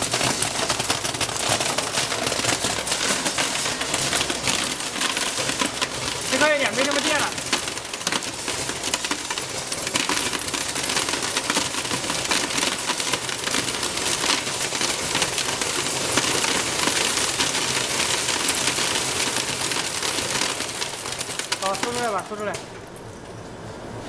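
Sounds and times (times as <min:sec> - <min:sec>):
metal scraps rattling into crate: 0:00.0 - 0:22.7
machine humming: 0:00.0 - 0:24.0.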